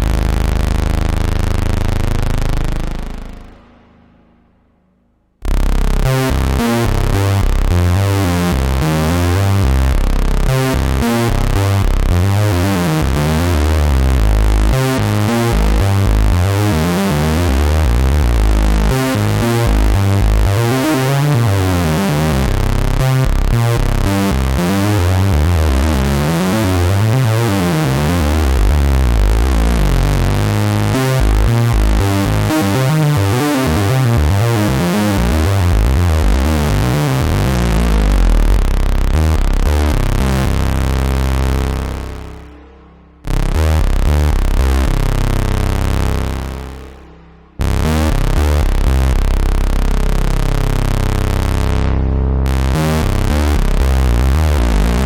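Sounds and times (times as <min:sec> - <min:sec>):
analog synthesizer bass line: 0:00.0 - 0:55.0.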